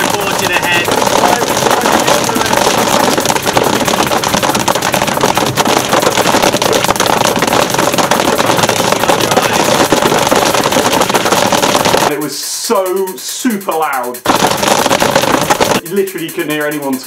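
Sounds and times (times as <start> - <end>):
hailstones pelting a car: 0.0 - 12.1, 14.2 - 15.8.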